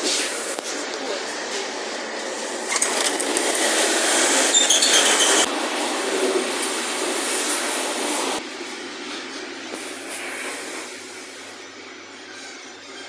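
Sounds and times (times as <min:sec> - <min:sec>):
electric train interior noise: 0:00.0 - 0:13.0.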